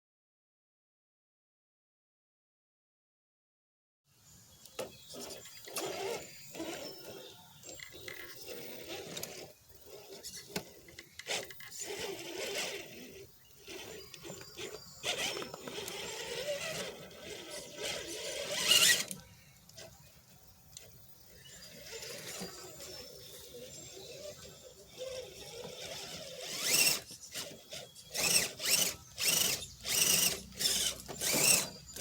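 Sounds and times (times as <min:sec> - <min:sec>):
rc car motor whining: 0:04.6 - 0:32.0.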